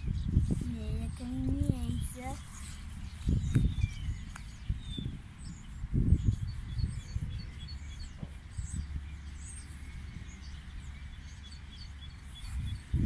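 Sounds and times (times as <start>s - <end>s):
small birds chirping: 0.0s - 13.0s
wind gusting on microphone: 0.0s - 13.0s.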